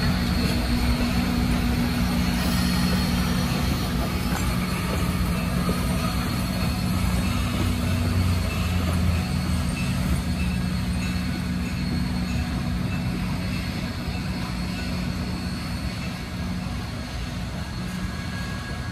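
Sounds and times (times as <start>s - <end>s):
train rumbling: 0.0s - 18.9s.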